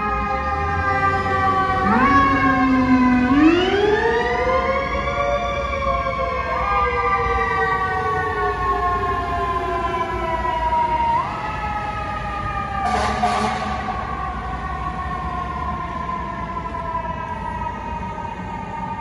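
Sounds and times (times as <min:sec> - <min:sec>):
fire truck siren wailing: 0:00.0 - 0:19.0
low road rumble: 0:00.0 - 0:19.0.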